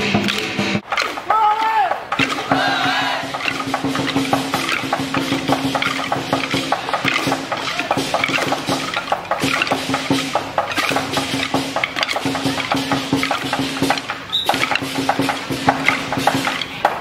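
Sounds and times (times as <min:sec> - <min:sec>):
wooden sticks clacking: 0:00.0 - 0:17.0.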